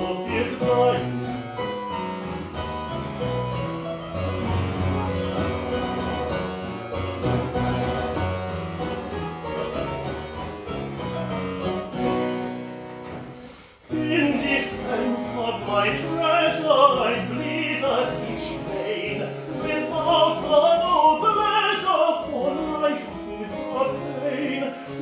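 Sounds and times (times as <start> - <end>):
harpsichord playing: 0.0 - 25.0.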